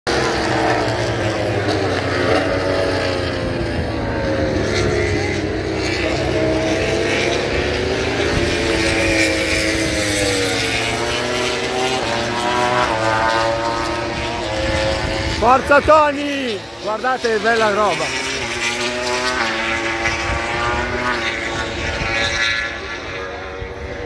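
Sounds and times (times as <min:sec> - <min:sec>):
racing motorcycle engines passing by: 0:00.1 - 0:24.0.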